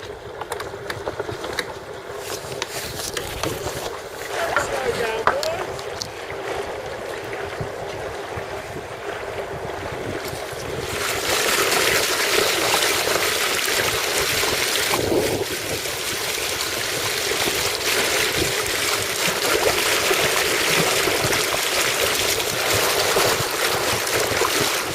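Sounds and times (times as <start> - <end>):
water rushing along boat hull: 0.0 - 24.9.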